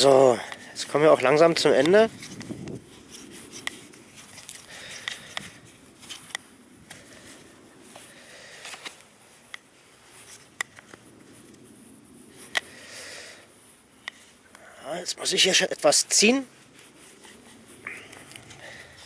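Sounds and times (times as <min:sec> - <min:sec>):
cord rustling: 0:00.3 - 0:12.8, 0:15.4 - 0:19.0.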